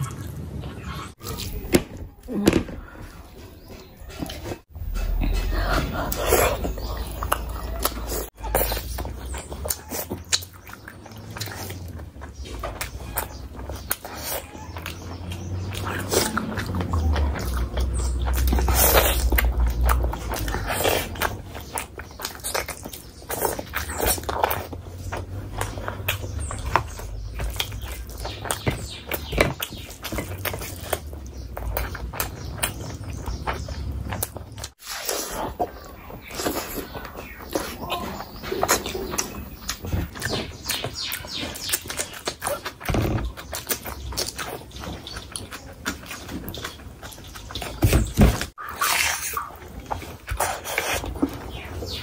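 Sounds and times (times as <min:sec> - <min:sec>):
wet chewing mouth sounds: 0:03.5 - 0:52.0.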